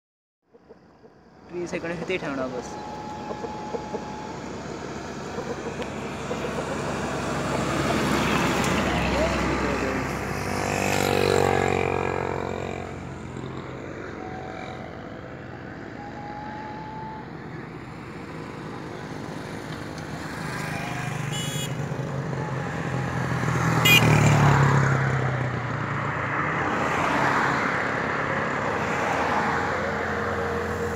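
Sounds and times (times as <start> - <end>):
road traffic passing: 0.4 - 30.9.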